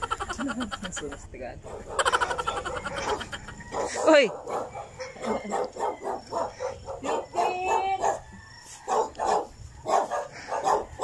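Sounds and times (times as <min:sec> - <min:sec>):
dog barking: 0:01.6 - 0:11.0.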